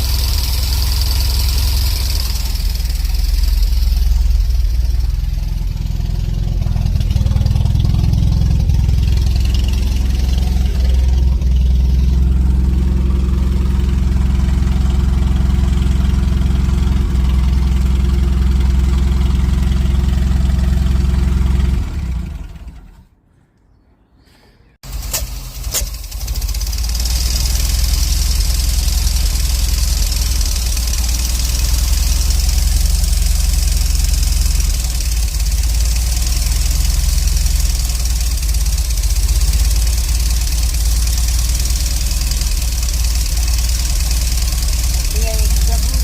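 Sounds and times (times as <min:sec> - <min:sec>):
van engine idling: 0:00.0 - 0:23.0, 0:24.8 - 0:46.0.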